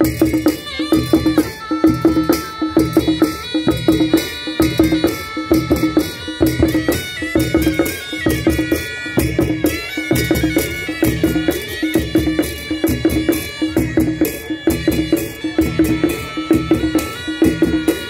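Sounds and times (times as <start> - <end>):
drum beat: 0.0 - 18.0
shawms playing reedy melody: 0.0 - 18.0.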